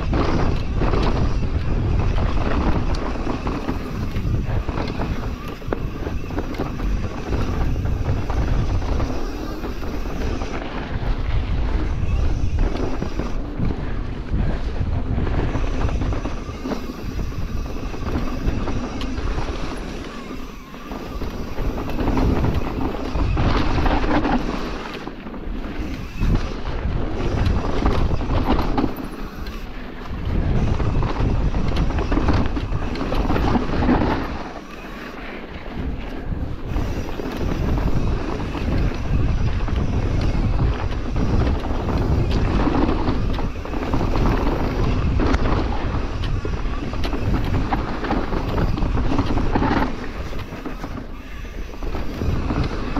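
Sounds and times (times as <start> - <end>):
bike tyres rolling on dirt: 0.0 - 52.9
wind rushing over microphone: 0.0 - 52.9.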